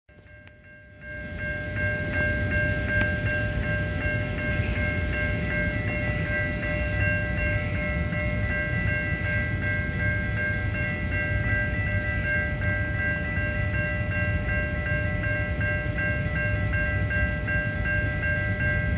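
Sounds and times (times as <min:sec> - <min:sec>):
crossing warning bell ringing: 0:00.1 - 0:18.9.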